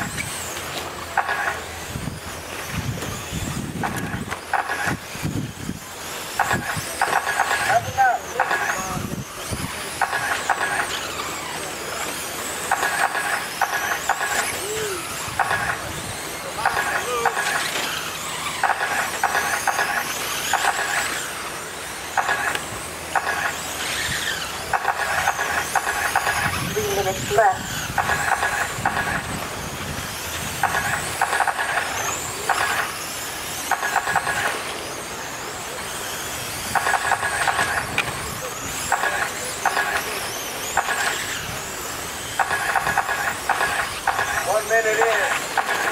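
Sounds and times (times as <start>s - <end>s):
toy car motors whining: 0.0s - 45.9s.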